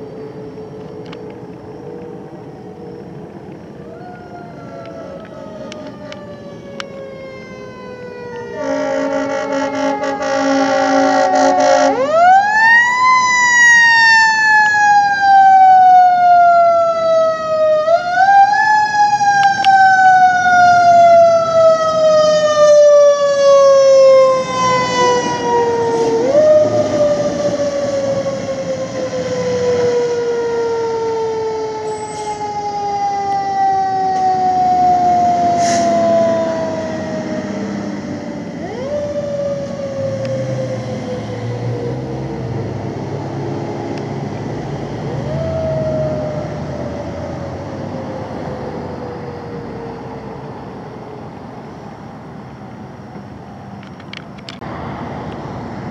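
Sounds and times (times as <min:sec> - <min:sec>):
truck rumble: 0:00.0 - 0:55.9.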